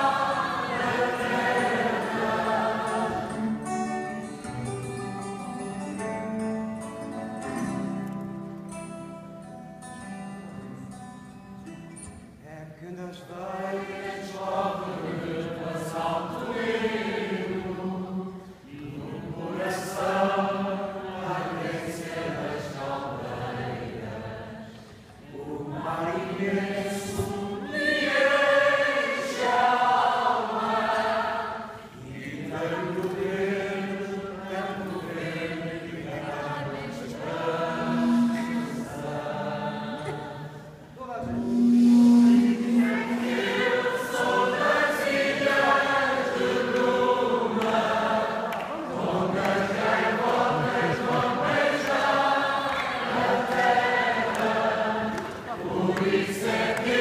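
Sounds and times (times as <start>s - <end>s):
group singing in unison: 0.0s - 4.1s, 13.2s - 57.0s
acoustic guitar: 0.0s - 57.0s.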